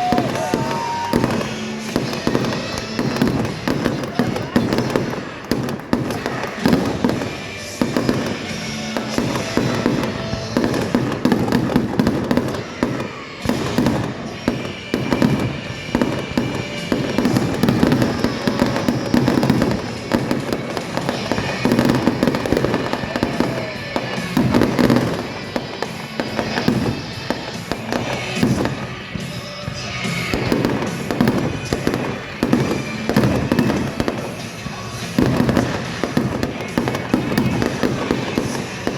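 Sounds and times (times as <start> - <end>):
fireworks bursting and crackling: 0.0 - 38.9
music playing: 0.0 - 38.9.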